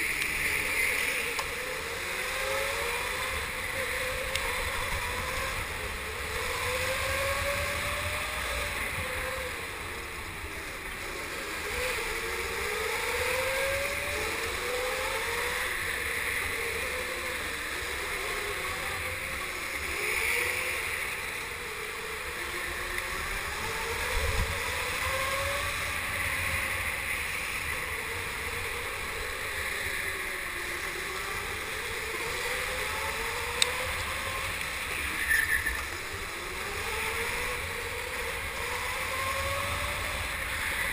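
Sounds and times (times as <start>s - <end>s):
go-kart motor whining: 0.0s - 40.9s
low wind rumble: 0.0s - 40.9s.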